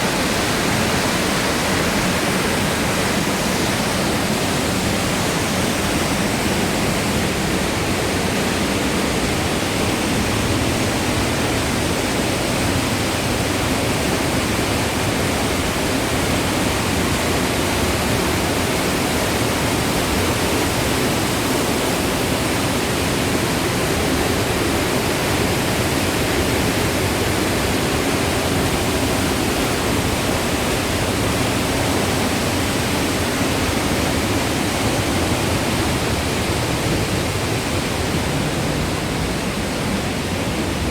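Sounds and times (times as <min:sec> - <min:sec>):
water rushing and tumbling: 0:00.0 - 0:40.9.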